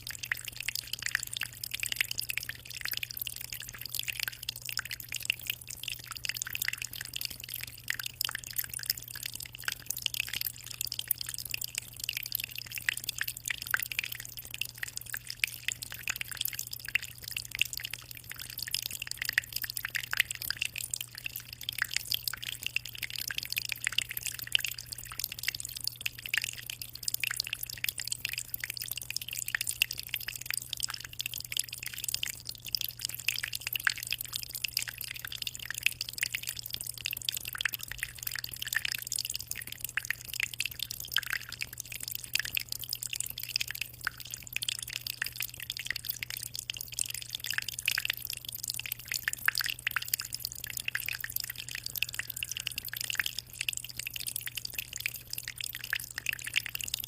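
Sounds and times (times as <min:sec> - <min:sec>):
aquarium water trickling and splashing: 0:00.0 - 0:57.0.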